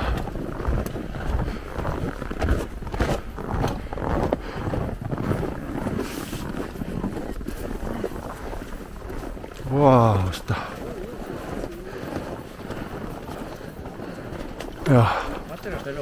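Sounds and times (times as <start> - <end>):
low rumbling wind: 0.0 - 16.0.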